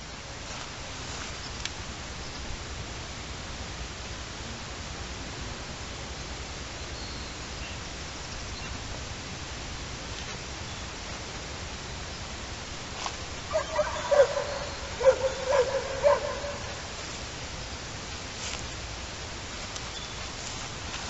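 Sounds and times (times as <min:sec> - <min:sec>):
outdoor hiss and rumble: 0:00.0 - 0:21.0.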